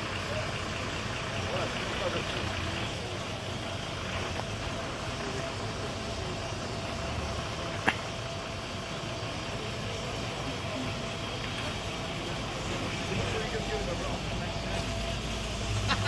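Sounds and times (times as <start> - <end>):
gas venting rush: 0.0 - 16.0.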